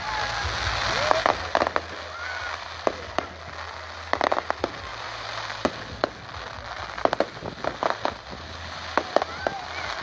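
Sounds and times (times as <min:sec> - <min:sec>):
fireworks bangs and crackling pops: 0:00.0 - 0:10.0.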